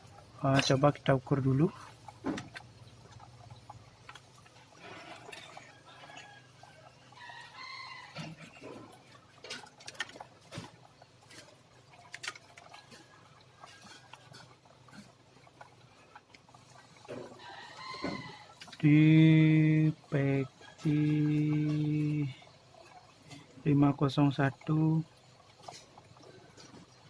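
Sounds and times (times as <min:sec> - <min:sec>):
chickens clucking: 0:01.6 - 0:23.5.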